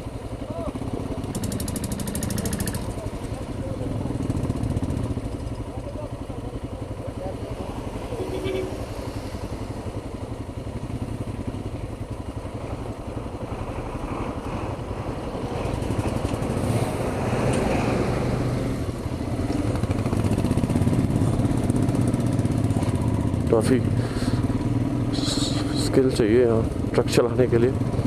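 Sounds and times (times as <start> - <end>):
motorcycle engine idling: 0.0 - 14.0, 18.9 - 28.0.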